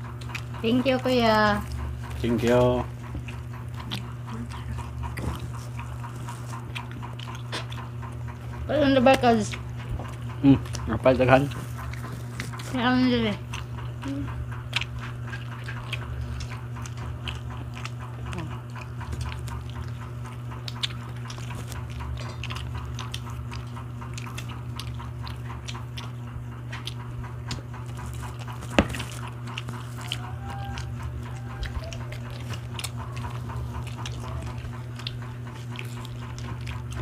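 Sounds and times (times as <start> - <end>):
lip-smacking: 0.0 - 37.0
steady low hum: 0.0 - 37.0
wet chewing: 0.0 - 37.0.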